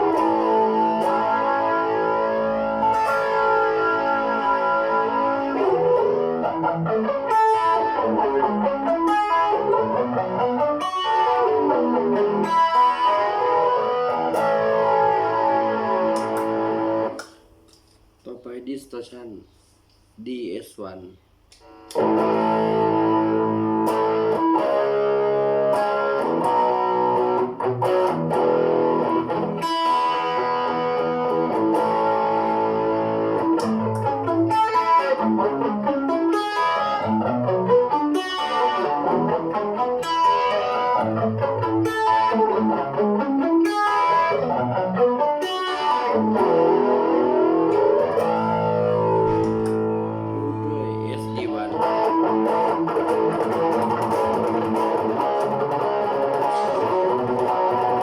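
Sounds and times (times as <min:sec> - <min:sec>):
distorted electric guitar: 0:00.0 - 0:18.0, 0:21.6 - 0:58.0.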